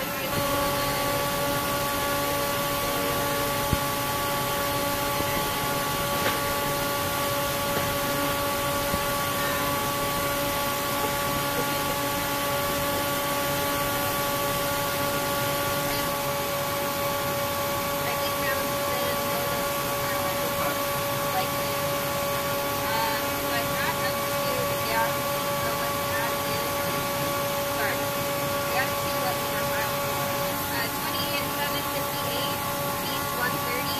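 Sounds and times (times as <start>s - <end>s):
machinery hum: 0.0s - 33.9s.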